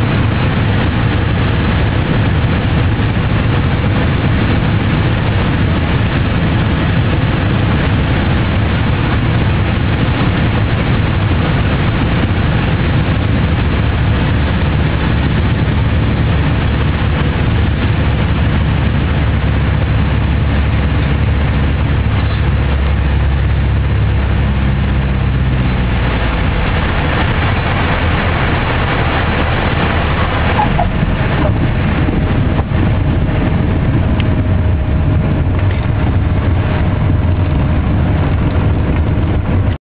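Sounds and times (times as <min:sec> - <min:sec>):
air rushing past: 0:00.0 - 0:39.8
propeller engines droning: 0:00.0 - 0:39.8
wheels rumbling on runway: 0:00.0 - 0:39.8.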